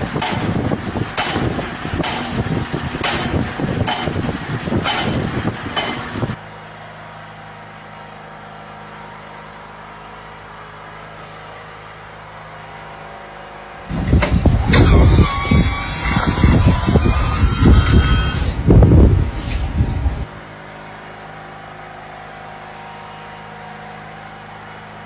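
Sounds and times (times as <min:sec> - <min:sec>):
loud mechanical noise with knocking: 0:00.0 - 0:25.0
machine hum: 0:00.0 - 0:25.0.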